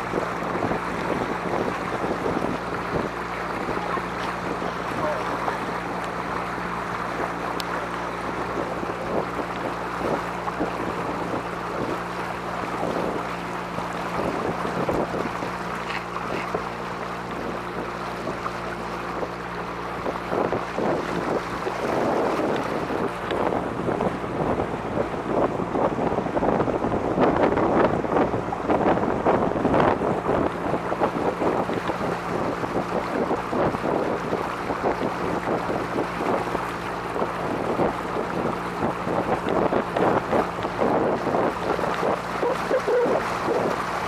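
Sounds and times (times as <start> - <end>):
boat motor running: 0.0 - 44.0
water and wind rushing: 0.0 - 44.0.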